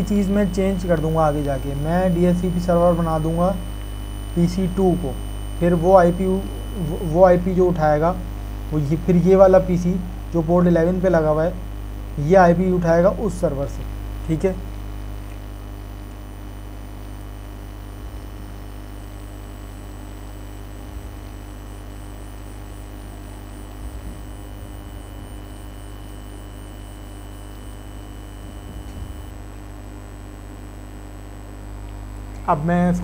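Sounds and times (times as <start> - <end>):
electrical mains hum: 0.0 - 33.0.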